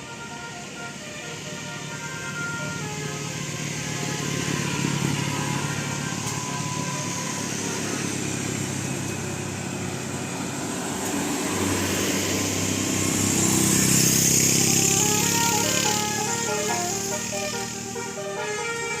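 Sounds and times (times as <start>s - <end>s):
multi-tone musical bus horn: 0.0s - 9.2s, 11.0s - 19.0s
road traffic passing: 0.0s - 19.0s.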